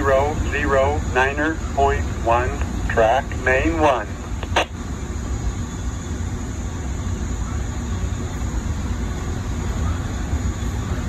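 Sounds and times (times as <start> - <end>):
train coach rumble: 0.0 - 11.0.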